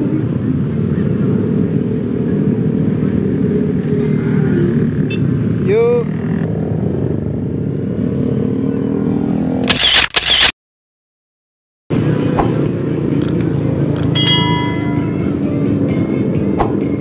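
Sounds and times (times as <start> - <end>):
motorcycles and scooters passing: 0.0 - 9.7, 11.9 - 17.0.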